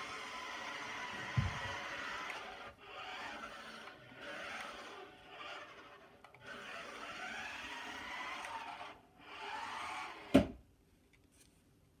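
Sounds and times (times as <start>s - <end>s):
toy car motor whirring: 0.0s - 10.4s.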